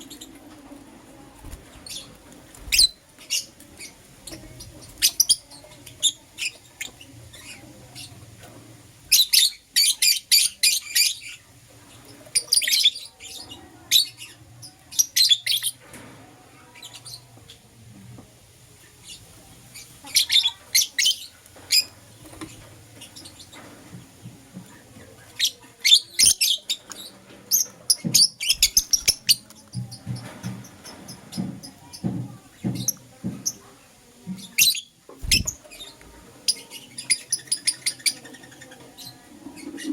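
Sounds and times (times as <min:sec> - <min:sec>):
birds chirping: 0:00.0 - 0:16.0, 0:16.6 - 0:39.9.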